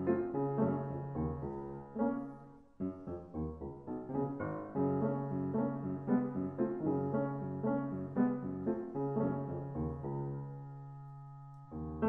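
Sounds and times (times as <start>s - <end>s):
piano-like background music: 0.0s - 12.0s.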